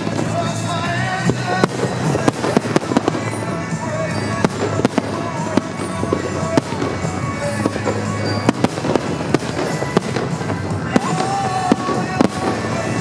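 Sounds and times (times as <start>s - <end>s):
firework crackling: 0.0s - 13.0s
firework shells banging: 0.0s - 13.0s
music: 0.0s - 13.0s.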